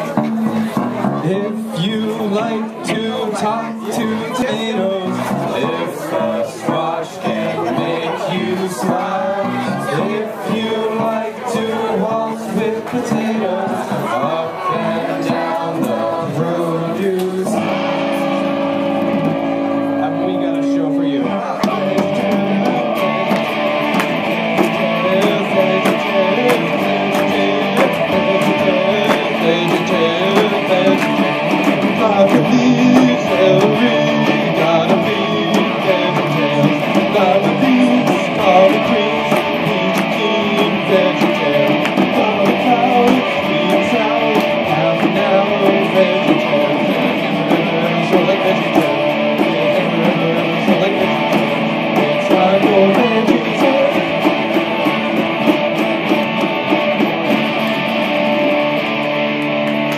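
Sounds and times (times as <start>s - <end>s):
live guitar music: 0.0s - 59.9s.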